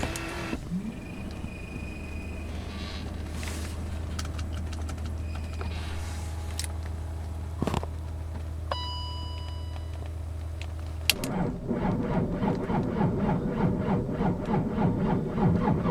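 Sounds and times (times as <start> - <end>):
diesel engine idling: 0.0 - 8.7, 10.1 - 15.9.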